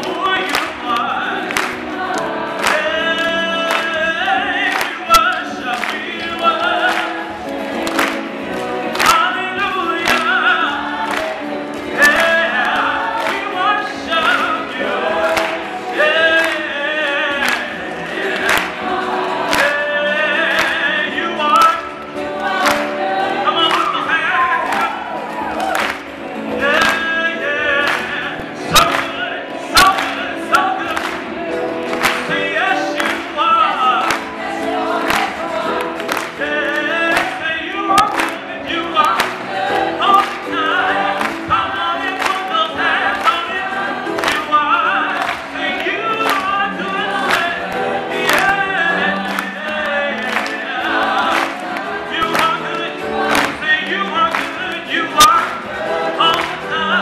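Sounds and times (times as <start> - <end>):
man singing into microphone: 0.0 - 7.7, 8.4 - 25.5, 26.3 - 57.0
choir singing: 0.0 - 57.0.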